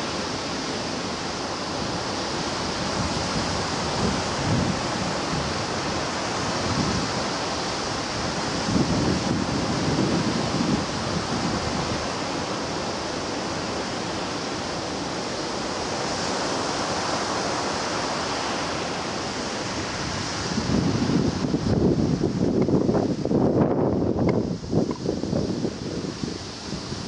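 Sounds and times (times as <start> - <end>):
sea waves breaking on shore: 0.0 - 27.0.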